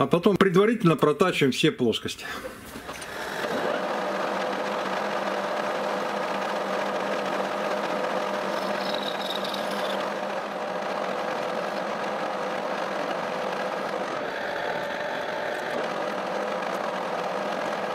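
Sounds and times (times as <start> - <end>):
lathe cutting steel: 2.9 - 17.9.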